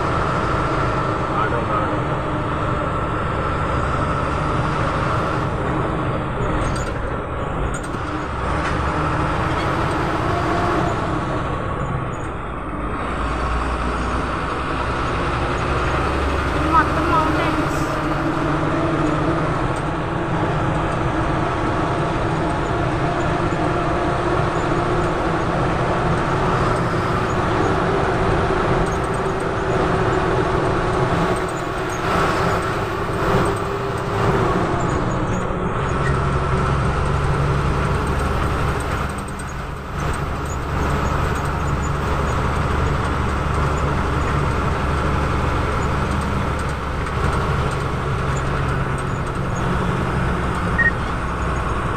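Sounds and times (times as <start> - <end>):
bus engine drone: 0.0 - 51.9
road and cabin noise: 0.0 - 51.9.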